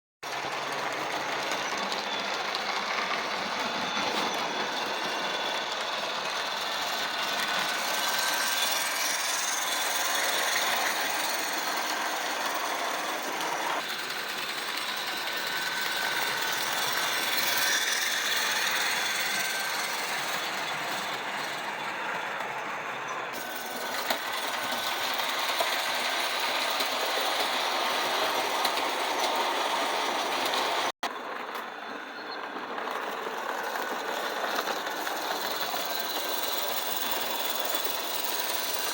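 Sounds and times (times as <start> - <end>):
model train motor whirring: 0.3 - 38.9.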